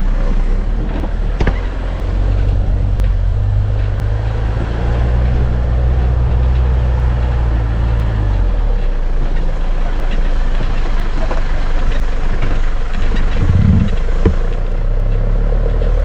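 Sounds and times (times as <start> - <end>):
engine and road drone: 0.0 - 16.0.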